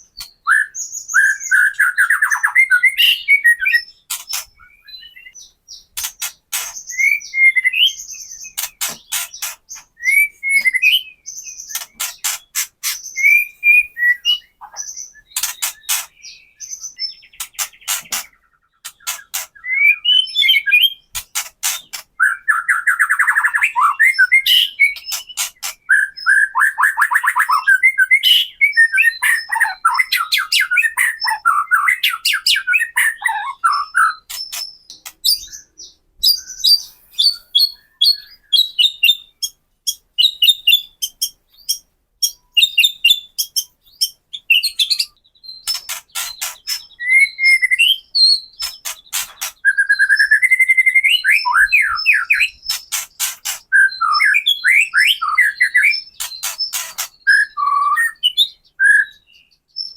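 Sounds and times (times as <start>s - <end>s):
fast chattering birdsong: 0.0s - 59.9s.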